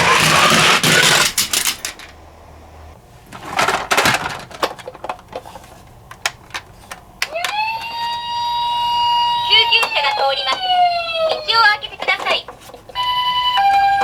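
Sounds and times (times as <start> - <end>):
toy cars rushing whir: 0.0 - 2.2, 3.3 - 14.0.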